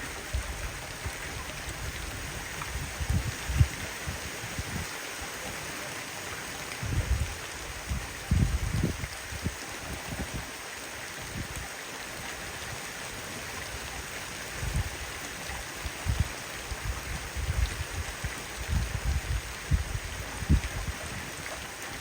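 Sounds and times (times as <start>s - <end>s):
wind gusting against microphone: 0.0s - 5.1s, 6.7s - 11.7s, 14.4s - 22.0s
rain hissing: 0.0s - 22.0s.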